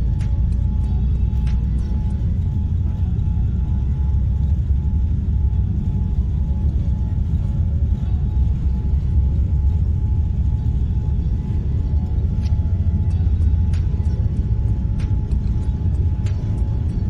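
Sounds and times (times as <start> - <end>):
faint steady whine: 0.0 - 17.0
jet engine cabin rumble: 0.0 - 17.0.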